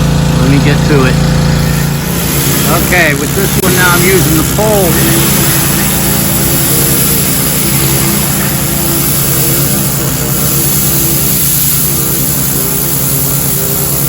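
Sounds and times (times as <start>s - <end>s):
pressure washer motor humming: 0.0s - 14.0s
water jet hissing: 1.3s - 14.0s.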